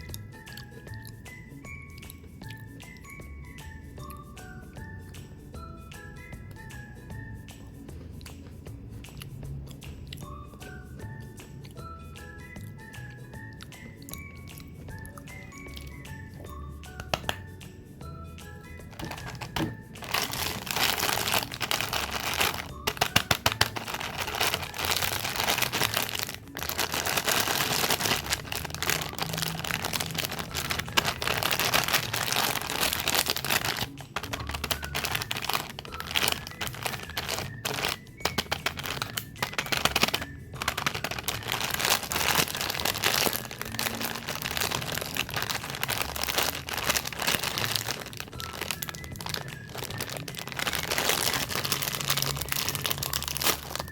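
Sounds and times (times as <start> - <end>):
crunching and chewing cookies: 0.0 - 3.3, 7.8 - 17.5, 18.8 - 53.9.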